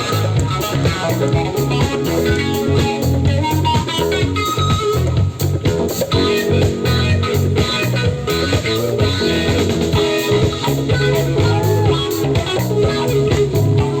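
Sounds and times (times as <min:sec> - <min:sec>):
bass line: 0:00.0 - 0:14.0
guitar lines: 0:00.0 - 0:14.0
steady drum beat: 0:00.0 - 0:14.0.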